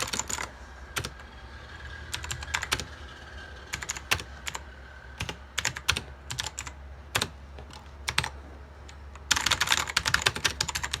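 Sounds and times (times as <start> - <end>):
computer keyboard typing: 0.0 - 1.2, 2.1 - 3.0, 3.7 - 4.6, 5.2 - 11.0.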